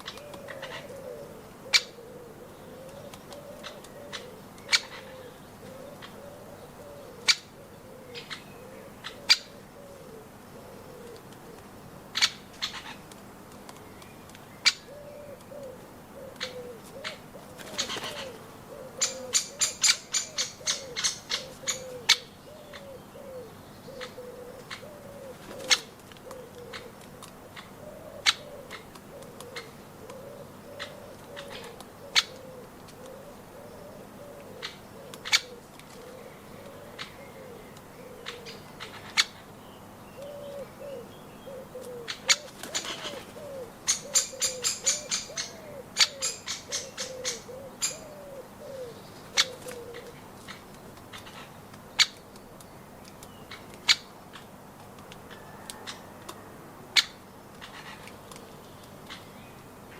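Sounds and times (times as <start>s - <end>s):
bird cooing: 0.0s - 13.1s, 14.6s - 52.2s, 55.0s - 58.3s.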